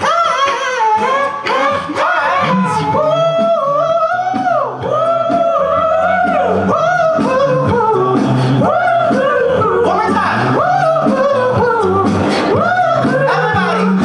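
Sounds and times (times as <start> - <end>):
male a cappella group singing: 0.0 - 14.0.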